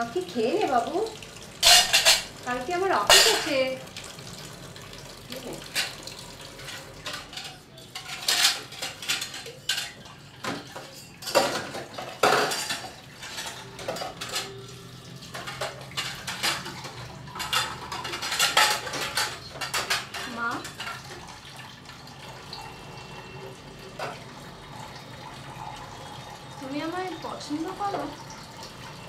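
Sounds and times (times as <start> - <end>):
dishes and utensils clattering: 1.6 - 3.8, 5.4 - 28.2.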